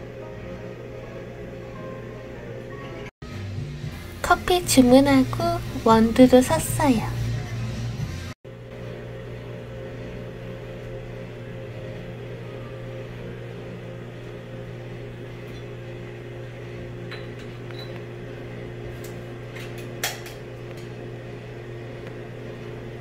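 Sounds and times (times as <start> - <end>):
electrical hum from appliances: 0.0 - 23.0.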